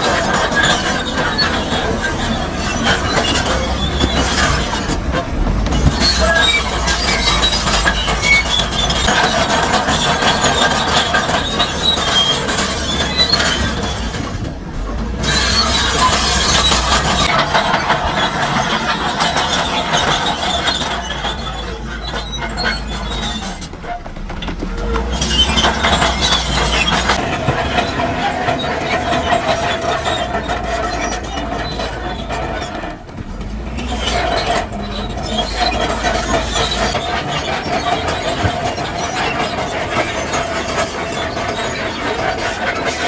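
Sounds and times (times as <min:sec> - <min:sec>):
diesel engine rumbling: 0:00.0 - 0:43.0
steel tracks squealing: 0:00.0 - 0:43.0.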